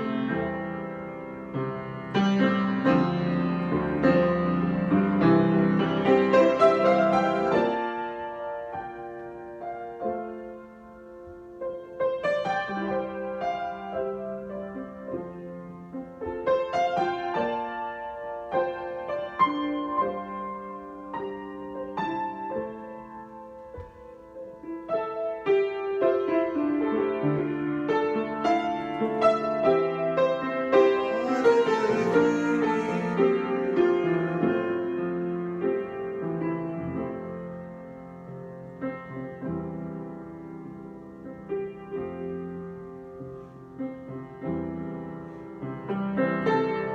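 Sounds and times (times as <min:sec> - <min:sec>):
solo piano: 0:00.0 - 0:46.9.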